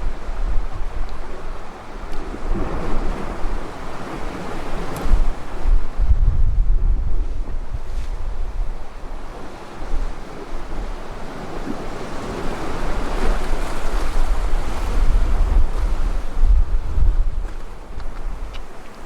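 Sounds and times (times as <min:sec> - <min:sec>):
sea waves washing: 0:00.0 - 0:06.3, 0:07.0 - 0:19.0
wind buffeting microphone: 0:00.0 - 0:19.0.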